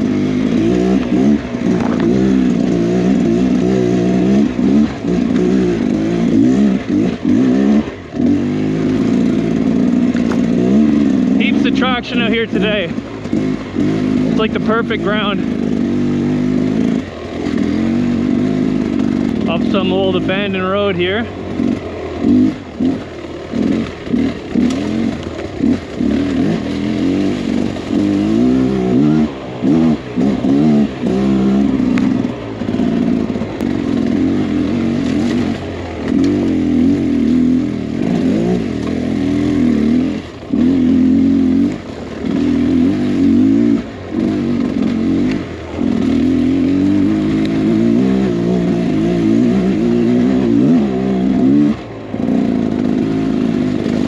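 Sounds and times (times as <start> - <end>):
two-stroke motorcycle engine revving: 0.0 - 54.0.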